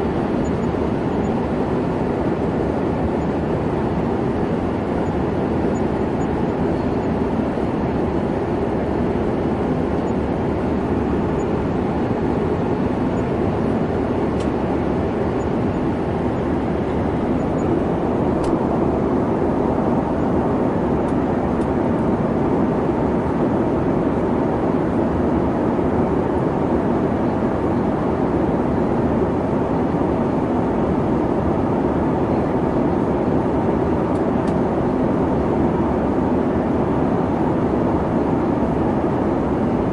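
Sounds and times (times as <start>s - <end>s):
jet engines and rushing air: 0.0s - 39.9s.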